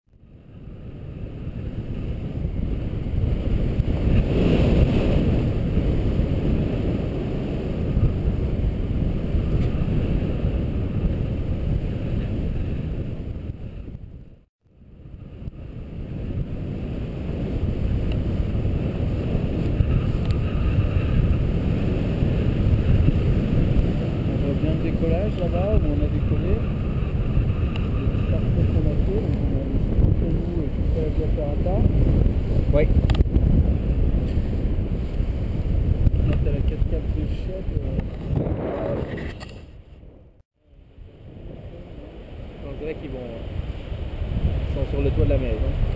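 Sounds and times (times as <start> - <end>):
wind rushing on microphone: 0.1 - 45.9.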